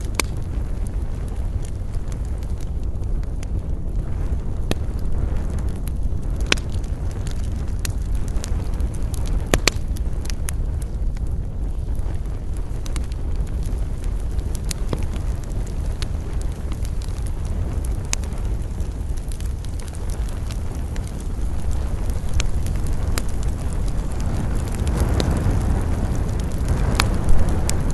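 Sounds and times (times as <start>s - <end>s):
campfire crackling: 0.0s - 27.9s.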